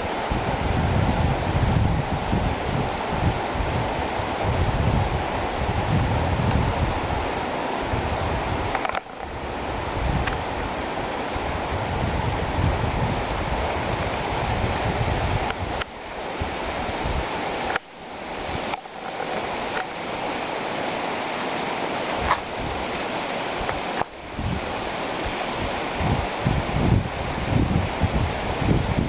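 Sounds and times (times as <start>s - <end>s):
river water rushing: 0.0s - 29.0s
wind buffeting microphone: 0.0s - 29.0s.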